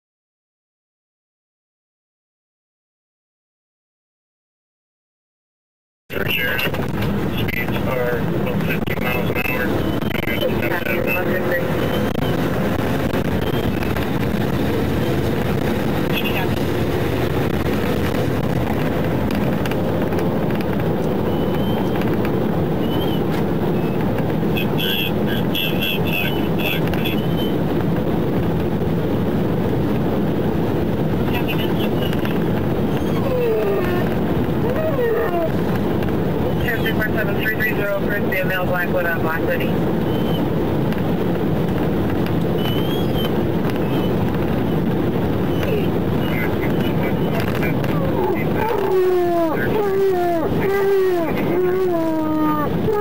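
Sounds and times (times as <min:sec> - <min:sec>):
engine hum: 0:06.1 - 0:53.0
road and tyre noise: 0:06.1 - 0:53.0.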